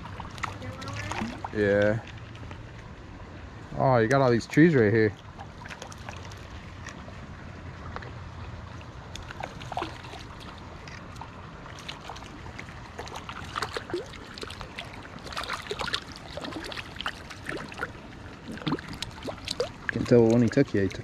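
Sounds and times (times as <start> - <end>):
water splashes and drips: 0.0 - 3.1, 4.4 - 21.0
river water running: 0.0 - 21.0.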